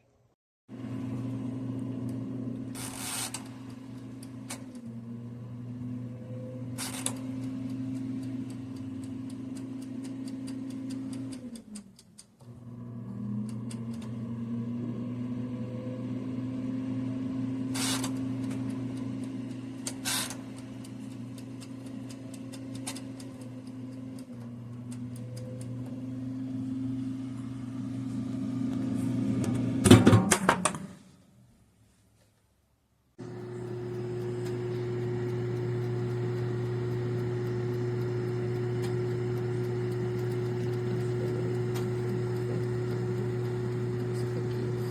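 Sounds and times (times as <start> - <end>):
oven fan motor hum: 0.7 - 11.8, 12.5 - 30.0, 33.2 - 44.9.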